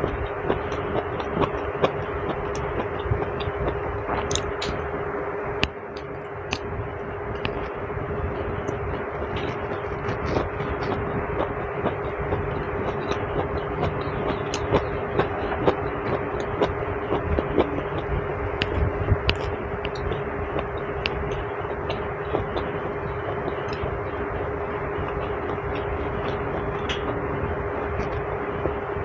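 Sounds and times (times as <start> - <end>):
steady noisy hum: 0.0 - 29.0.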